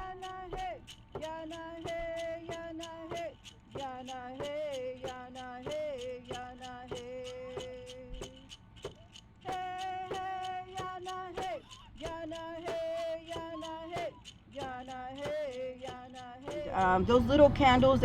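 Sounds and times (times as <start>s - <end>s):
steady percussion beat: 0.0s - 17.4s.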